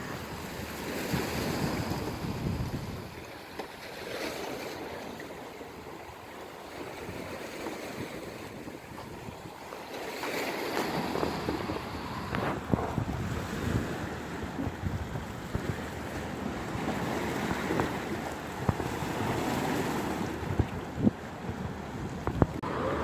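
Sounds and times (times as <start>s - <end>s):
wind buffeting microphone: 0.0s - 3.6s, 6.8s - 23.0s
ocean waves washing ashore: 0.0s - 23.0s.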